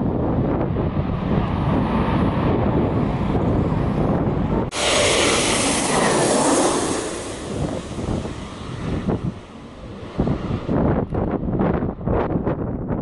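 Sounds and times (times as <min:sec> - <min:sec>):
low rumble: 0:00.0 - 0:11.5
jet airliner passing overhead: 0:00.0 - 0:12.1
wind buffeting microphone: 0:00.0 - 0:13.0.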